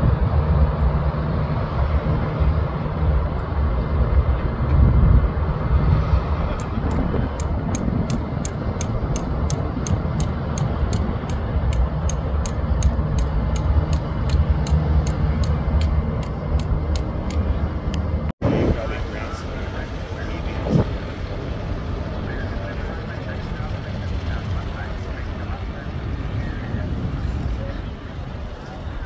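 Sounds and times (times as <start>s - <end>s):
road noise: 0.0s - 29.0s
tram engine rumble: 0.0s - 29.0s.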